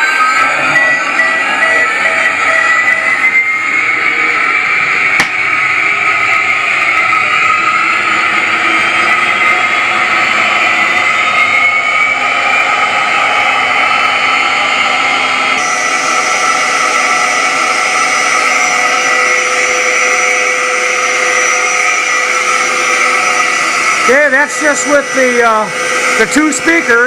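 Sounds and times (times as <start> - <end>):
simulated jet engine whine: 0.0 - 27.0.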